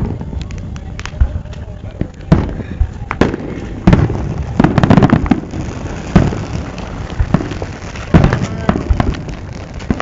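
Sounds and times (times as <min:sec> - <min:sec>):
fireworks bangs: 0:00.0 - 0:10.0
small fireworks pops: 0:00.0 - 0:10.0.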